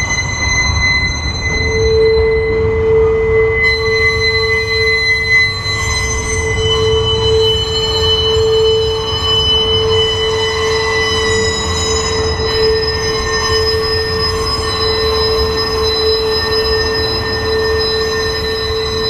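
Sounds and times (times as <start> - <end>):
high-pitched wheel squeal: 0.0 - 19.0.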